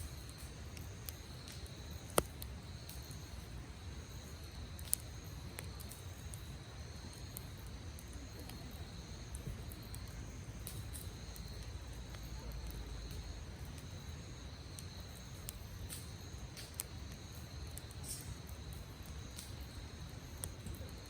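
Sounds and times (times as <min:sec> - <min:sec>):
campfire crackling and popping: 0:00.0 - 0:21.0
insects chirring: 0:00.0 - 0:21.0.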